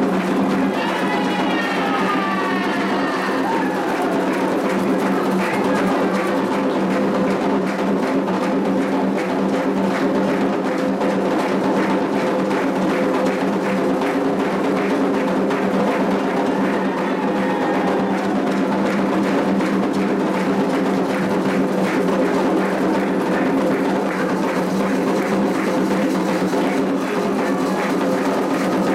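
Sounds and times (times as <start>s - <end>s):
hand drums: 0.0s - 28.9s.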